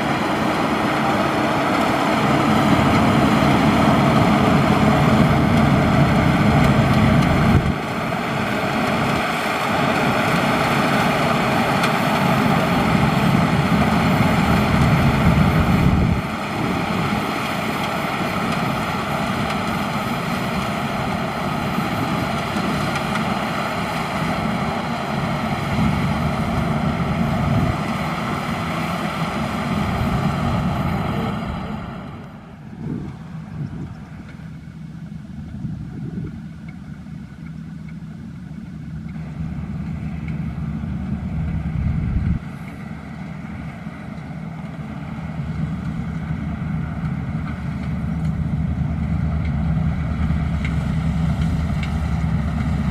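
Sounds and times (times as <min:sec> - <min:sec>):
combine harvester drone: 0:00.0 - 0:52.9.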